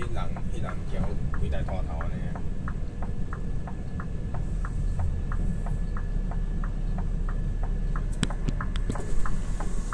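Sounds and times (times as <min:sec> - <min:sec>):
truck diesel engine rumbling: 0:00.0 - 0:09.9
turn signal ticking: 0:00.0 - 0:09.9.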